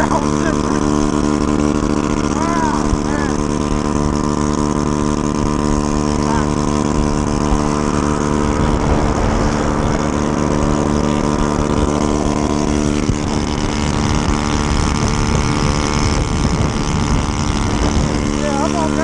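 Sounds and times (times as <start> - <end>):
scooter engine running: 0.0 - 19.0
wind and road noise: 0.0 - 19.0.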